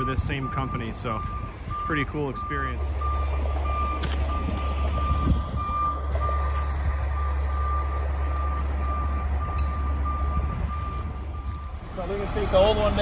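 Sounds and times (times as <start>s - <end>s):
truck reversing alarm beeping: 0.0s - 13.0s.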